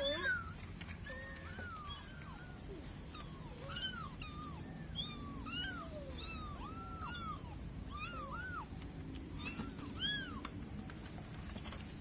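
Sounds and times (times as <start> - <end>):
kittens mewing: 0.0 - 10.9.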